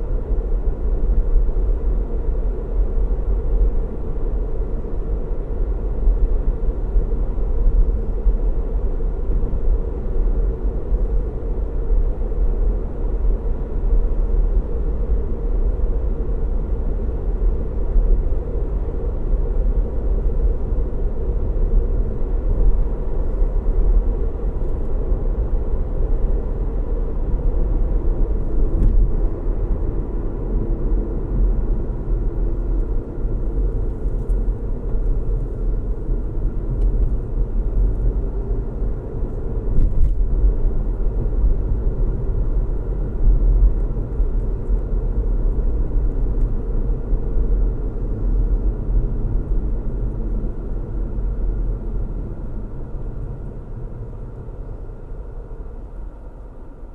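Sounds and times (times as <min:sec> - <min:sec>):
car road noise rumble: 0:00.0 - 0:56.9.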